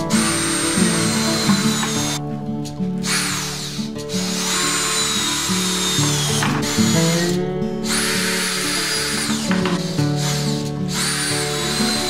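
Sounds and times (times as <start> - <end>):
drill driving screws into wood: 0.0 - 2.2, 3.0 - 12.0
background music: 0.0 - 12.0.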